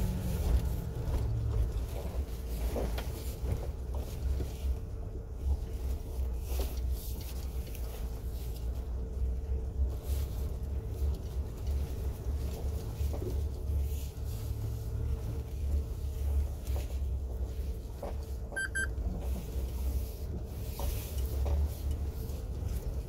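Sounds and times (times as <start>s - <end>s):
tyres on concrete road: 0.0s - 23.0s.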